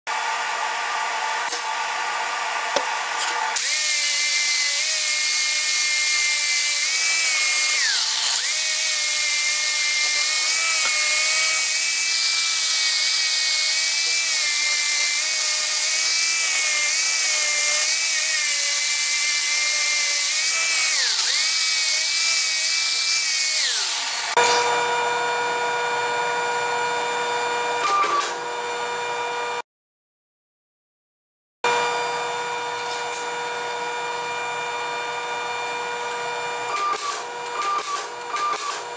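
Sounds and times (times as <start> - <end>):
angle grinder whining: 0.1 - 29.6, 31.7 - 38.9.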